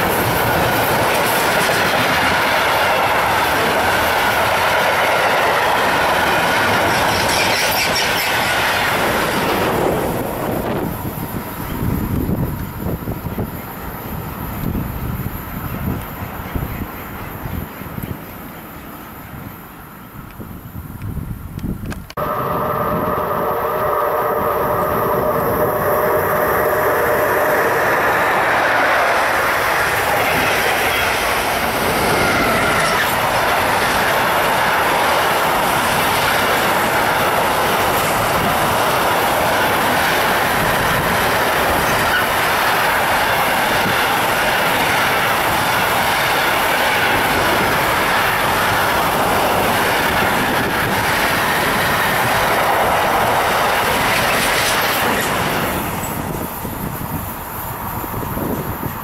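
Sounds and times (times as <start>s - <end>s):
train wheels running on rails: 0.0s - 59.0s.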